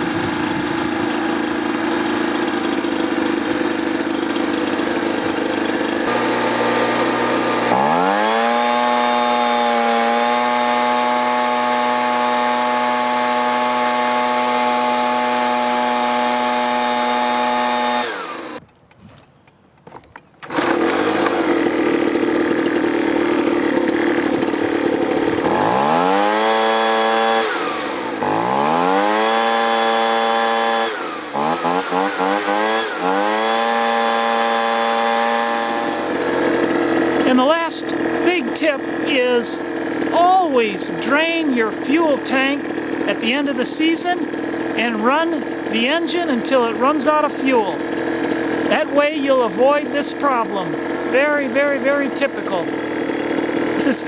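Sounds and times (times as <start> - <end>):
leaf blower engine revving: 0.0 - 18.6, 20.4 - 54.0.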